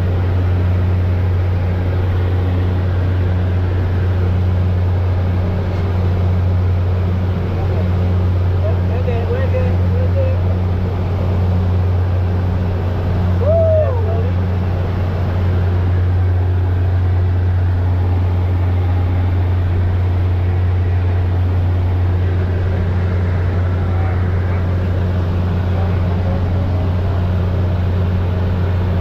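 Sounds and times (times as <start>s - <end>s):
aircraft engine droning: 0.0s - 29.0s
constant rushing noise: 0.0s - 29.0s.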